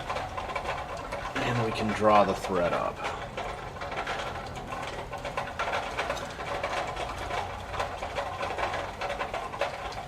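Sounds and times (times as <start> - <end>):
sewing machine rattling: 0.0 - 10.0.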